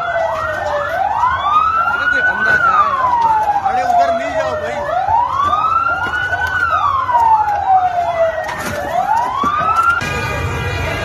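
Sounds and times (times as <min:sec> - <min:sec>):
crowd: 0:00.0 - 0:11.0
wailing siren: 0:00.0 - 0:11.0
yelping siren: 0:00.0 - 0:11.0.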